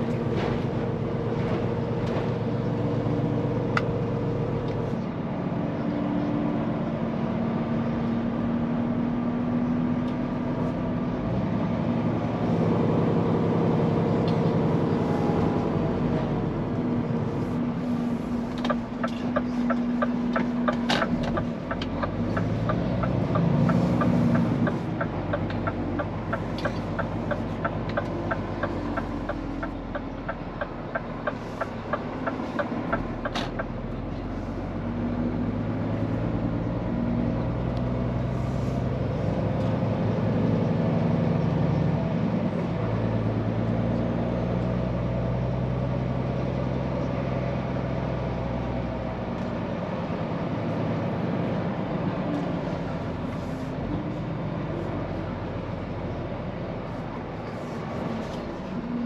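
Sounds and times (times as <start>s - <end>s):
truck diesel engine running: 0.0s - 8.0s, 8.8s - 59.0s.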